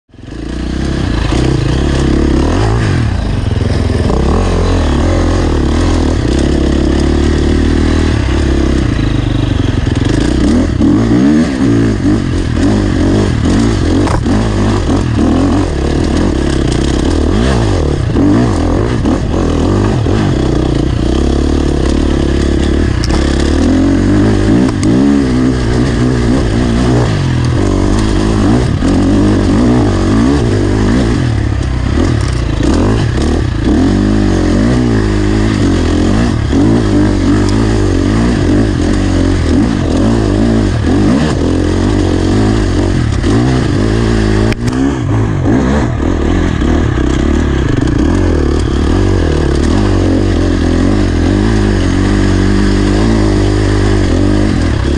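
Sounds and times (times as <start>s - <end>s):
dirt bike engine revving: 0.1s - 54.9s.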